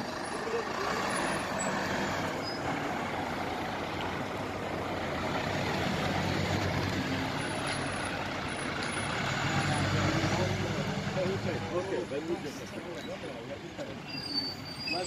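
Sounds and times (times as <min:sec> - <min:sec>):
fire engine diesel drone: 0:00.0 - 0:12.8
street noise: 0:00.0 - 0:15.0.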